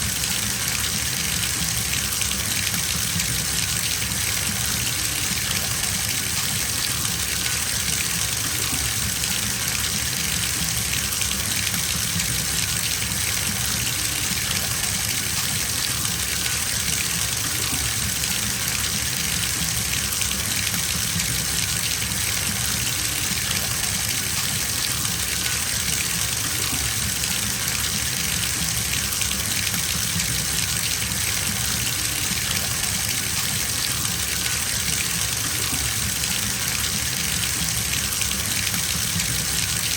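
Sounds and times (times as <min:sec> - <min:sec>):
tap water filling bathtub: 0:00.0 - 0:39.9.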